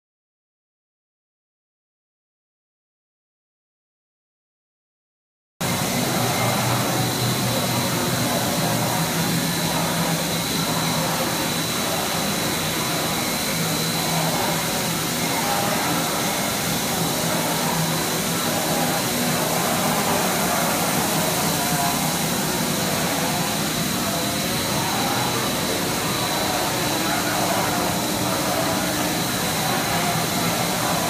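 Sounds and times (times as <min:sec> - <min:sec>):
high whine: 0:05.6 - 0:31.0
loud machine noise: 0:05.6 - 0:31.0.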